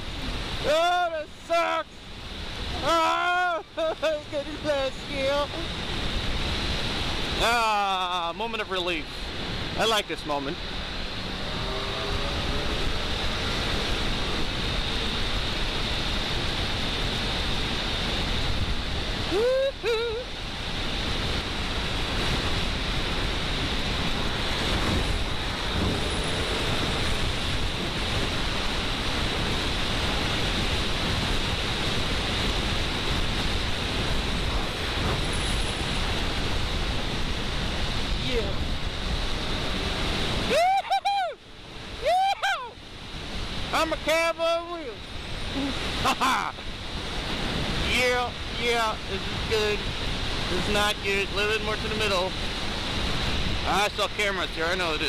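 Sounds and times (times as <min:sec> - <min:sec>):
faint high whine: 0:00.0 - 0:45.8
wind rushing on microphone: 0:00.0 - 0:55.0.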